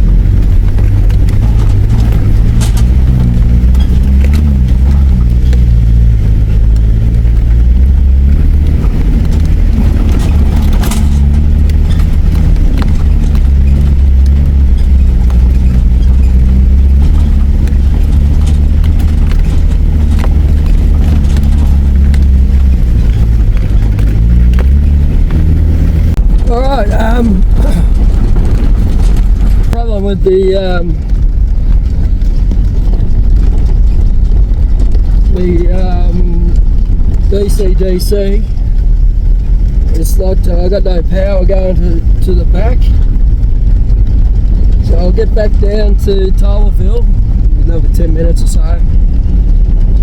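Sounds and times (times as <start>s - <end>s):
vehicle engine under load: 0.0s - 50.0s.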